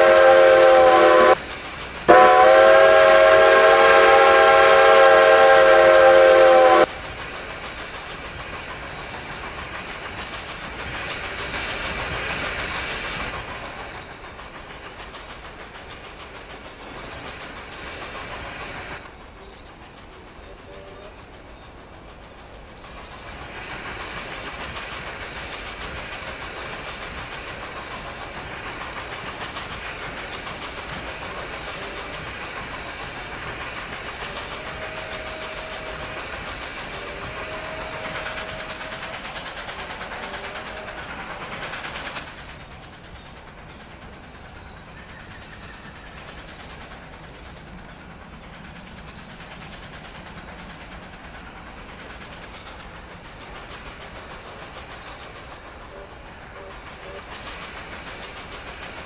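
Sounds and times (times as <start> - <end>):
quiet train running noise: 0.0 - 59.0
steam train rushing noise: 0.0 - 59.0.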